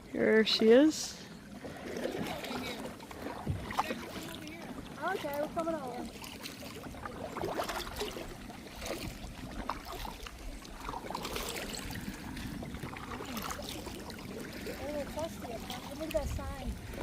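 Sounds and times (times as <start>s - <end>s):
paddle splashing water: 0.0s - 17.0s.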